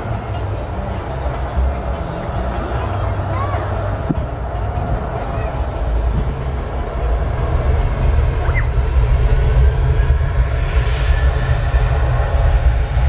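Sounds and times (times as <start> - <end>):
jet engines rumbling with whine: 0.0 - 13.0.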